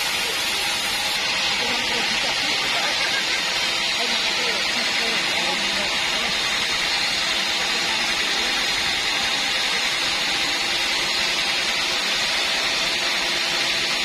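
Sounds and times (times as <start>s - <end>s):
band saw running: 0.0s - 14.0s.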